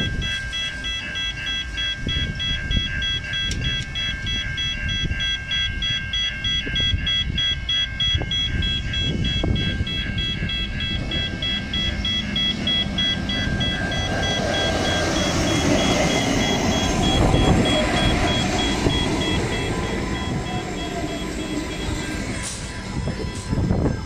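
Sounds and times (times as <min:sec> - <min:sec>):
diesel railcar passing: 0:00.0 - 0:24.0
level crossing warning bells: 0:00.0 - 0:24.0.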